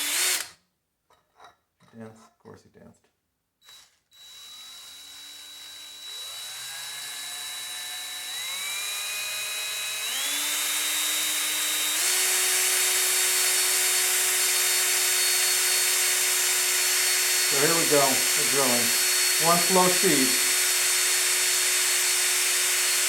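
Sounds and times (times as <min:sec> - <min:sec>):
electric drill motor whine: 0:00.0 - 0:00.5, 0:03.6 - 0:23.0.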